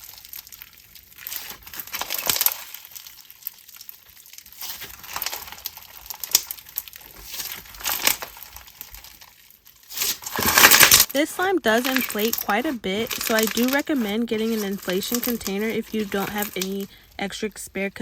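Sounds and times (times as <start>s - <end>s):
slime crunching and crackling: 0.0s - 18.0s.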